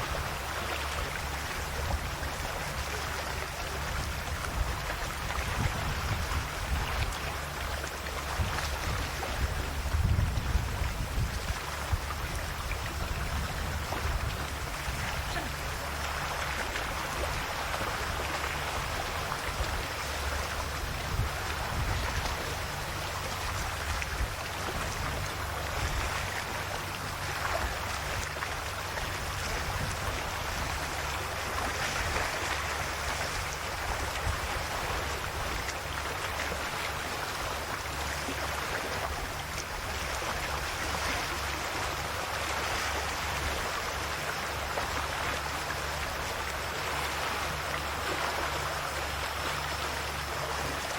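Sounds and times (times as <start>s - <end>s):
sea waves washing onto shore: 0.0s - 50.9s
steady low rumble: 0.0s - 50.9s.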